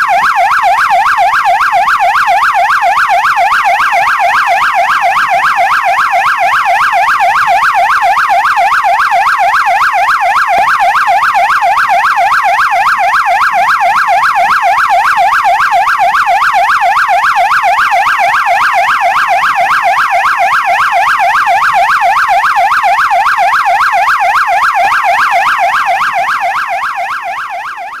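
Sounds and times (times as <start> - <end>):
police siren yelp: 0.0 - 28.0.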